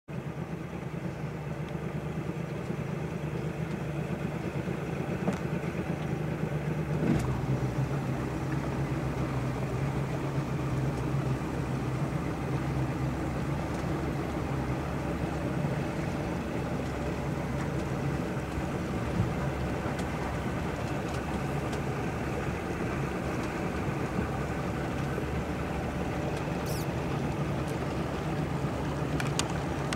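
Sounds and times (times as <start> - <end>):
boat motor droning: 0.1 - 29.9.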